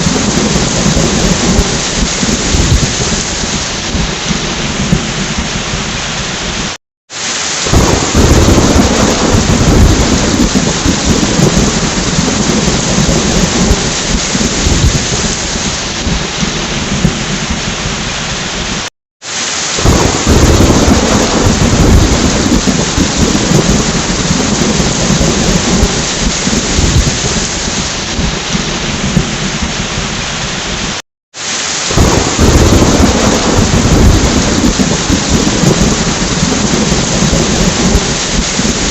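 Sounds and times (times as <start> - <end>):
rumbling thunder: 0.0 - 6.8, 7.6 - 18.9, 19.8 - 30.9, 31.9 - 38.9
heavy rain: 0.0 - 38.9.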